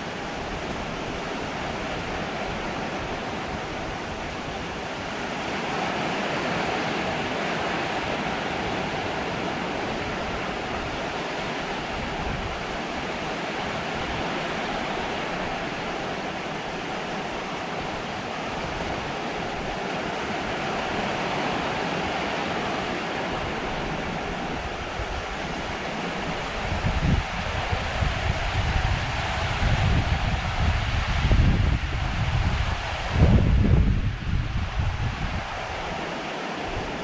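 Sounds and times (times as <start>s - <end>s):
heavy rain on a metal roof: 0.0s - 37.0s.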